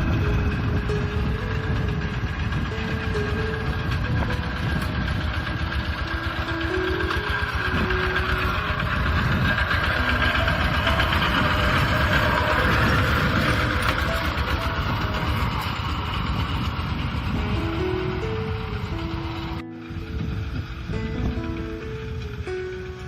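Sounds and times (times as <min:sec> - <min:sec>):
tractor diesel engine chugging: 0:00.0 - 0:23.0.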